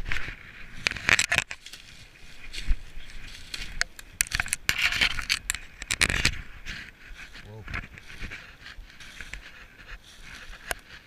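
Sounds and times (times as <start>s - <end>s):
brush rustling against clothing: 0.0s - 11.0s
footsteps crunching dry leaves: 0.0s - 11.0s.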